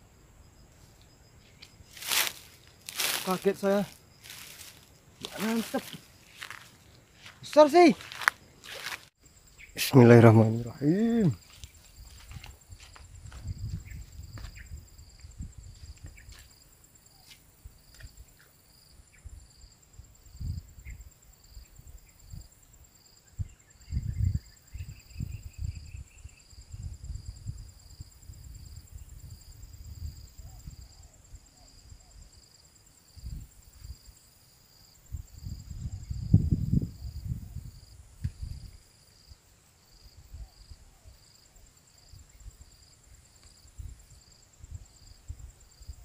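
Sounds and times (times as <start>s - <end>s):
insect pulsing chirp: 0.0s - 46.0s
insects buzzing: 0.0s - 46.0s.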